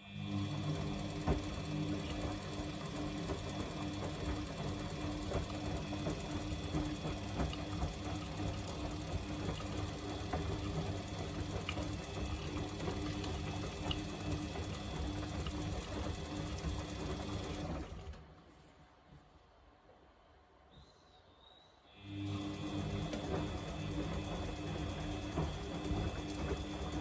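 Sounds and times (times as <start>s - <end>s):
washing machine motor hum: 0.0s - 18.5s, 22.0s - 27.0s.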